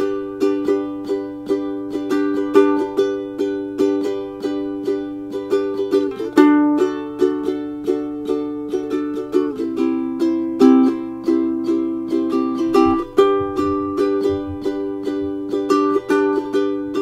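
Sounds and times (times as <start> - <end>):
ukulele strumming chords: 0.0 - 17.0.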